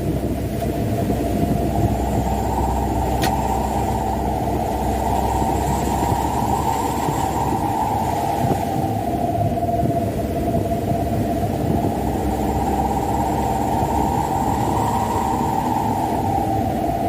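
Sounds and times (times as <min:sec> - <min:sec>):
diesel truck engine driving: 0:00.0 - 0:17.0.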